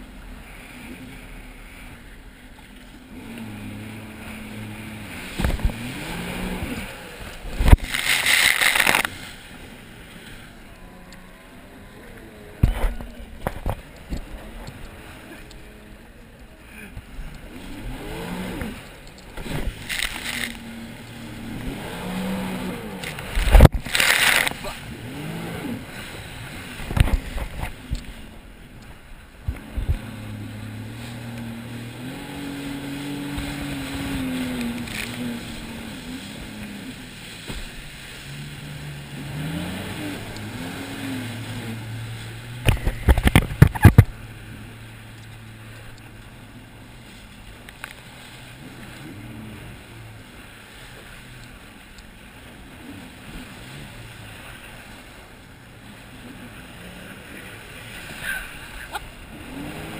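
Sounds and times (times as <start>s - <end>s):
water rushing past hull: 0.0s - 59.9s
watercraft engine revving: 0.0s - 59.9s
knocks and splashes: 3.1s - 10.4s, 12.4s - 15.7s, 16.8s - 59.9s.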